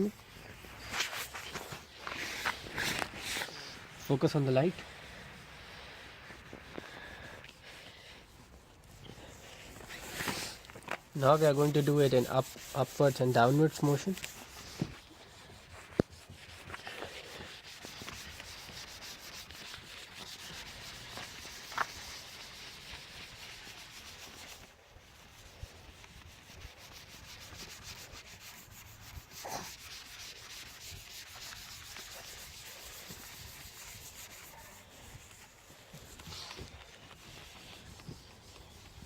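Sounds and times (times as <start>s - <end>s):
cloth rubbing plastic lens: 0.0s - 24.7s, 25.8s - 39.0s.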